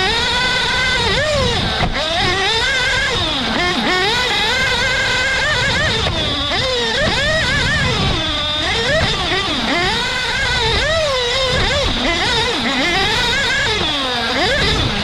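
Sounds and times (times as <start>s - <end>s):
rc car motor revving: 0.0s - 15.0s
tyres rumbling on dirt: 0.0s - 15.0s.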